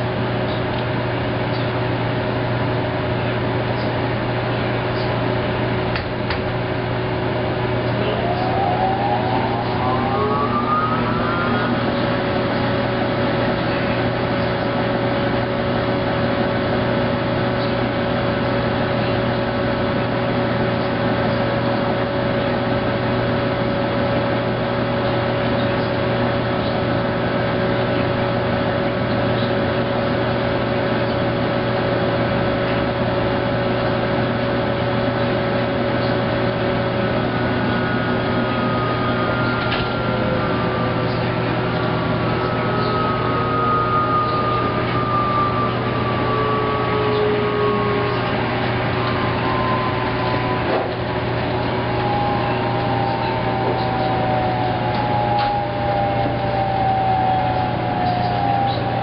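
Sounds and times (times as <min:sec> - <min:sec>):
washer motor whine: 0:00.0 - 0:59.0
washing machine humming: 0:00.0 - 0:59.0.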